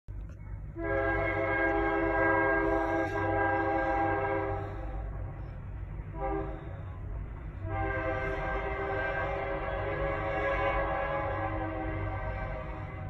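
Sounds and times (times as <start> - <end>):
train rumbling past: 0.1 - 13.0
locomotive air horn blasts: 0.7 - 5.1, 6.1 - 13.0.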